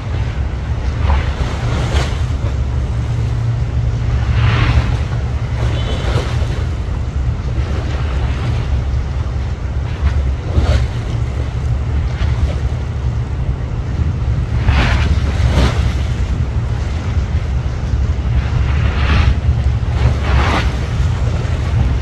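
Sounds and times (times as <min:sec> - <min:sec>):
diesel engines rumbling: 0:00.0 - 0:22.0
water sloshing: 0:00.0 - 0:22.0
wind buffeting microphone: 0:00.0 - 0:22.0.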